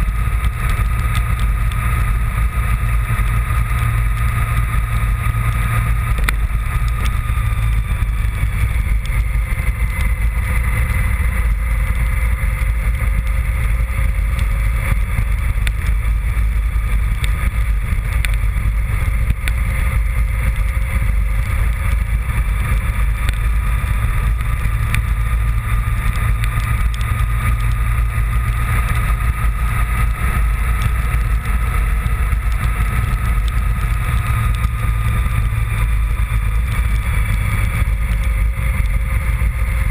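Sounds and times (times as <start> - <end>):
heavy low rumble: 0.0 - 39.9
motorcycle engine running steadily: 0.0 - 39.9.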